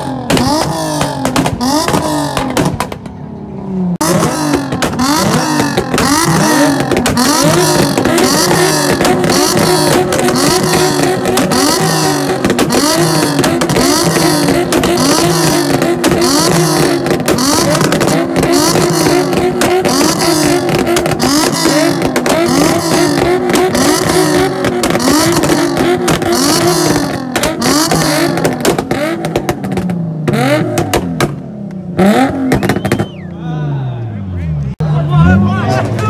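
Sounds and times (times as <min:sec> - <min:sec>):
exhaust crackling and banging: 0:00.0 - 0:03.2, 0:04.0 - 0:33.2
engine revving on limiter: 0:03.6 - 0:33.1.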